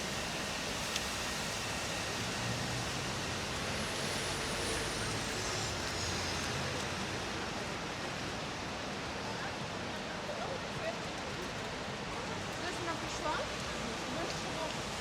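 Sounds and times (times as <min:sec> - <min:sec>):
road traffic hiss: 0:00.0 - 0:10.8, 0:11.7 - 0:15.0.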